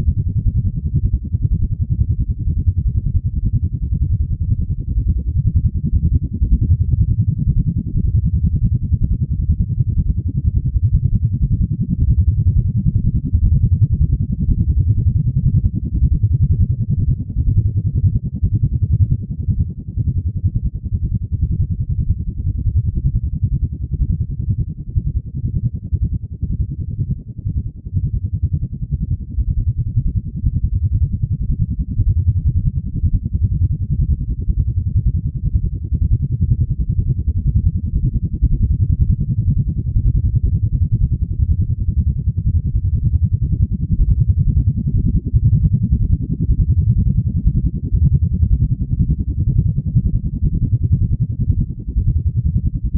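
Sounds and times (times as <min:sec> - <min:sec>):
deep drone rumble: 0:00.0 - 0:52.9.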